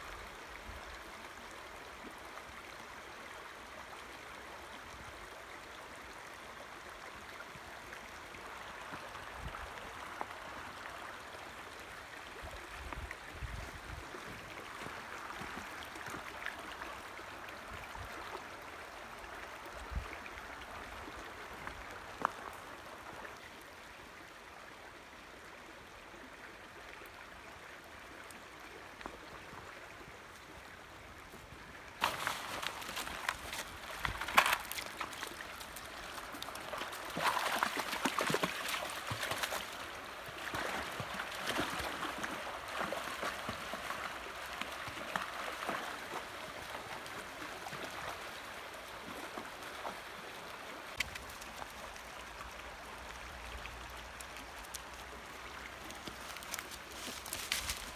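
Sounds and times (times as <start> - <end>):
creek rushing over rocks: 0.0 - 57.9.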